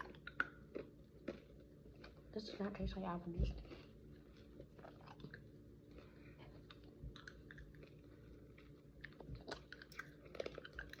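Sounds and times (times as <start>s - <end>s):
chewing sticky candy: 0.0s - 11.0s.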